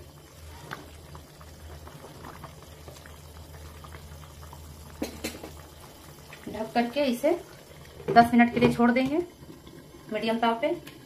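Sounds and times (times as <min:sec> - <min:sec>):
gravy simmering with bubbles popping: 0:00.0 - 0:11.0.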